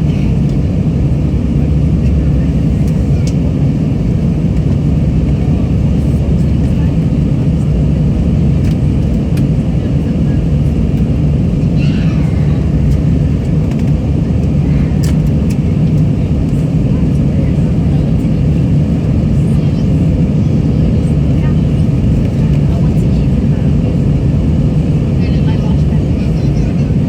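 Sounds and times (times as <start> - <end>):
airliner cabin jet engine roar: 0.0 - 27.0.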